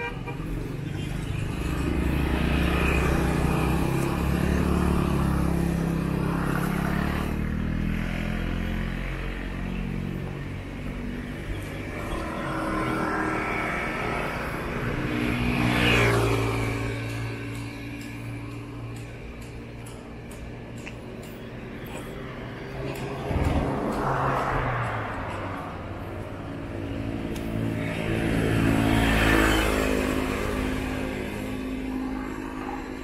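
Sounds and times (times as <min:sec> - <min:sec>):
cars driving past: 0:00.0 - 0:33.0
motorcycles driving past: 0:00.4 - 0:20.1, 0:21.4 - 0:33.0.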